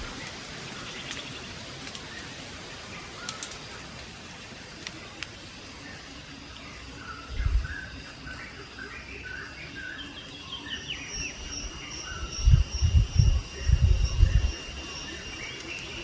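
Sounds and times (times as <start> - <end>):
birds chirping: 0.0 - 16.0
insects trilling: 0.0 - 16.0.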